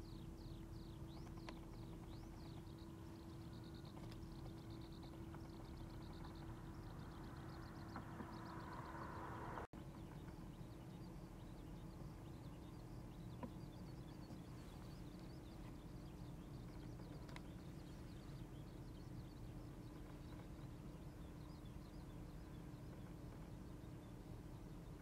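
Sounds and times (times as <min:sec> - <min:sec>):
small birds twittering: 0:00.0 - 0:25.0
steady low hum: 0:00.0 - 0:25.0.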